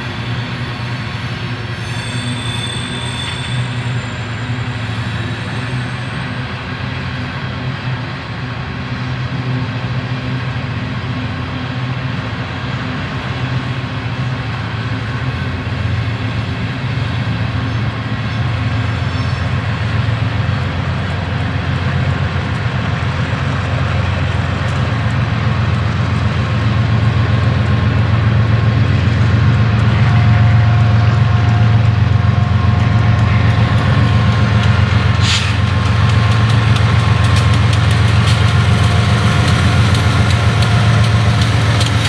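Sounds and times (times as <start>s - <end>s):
freight train wheels clattering on rails: 0.0s - 42.0s.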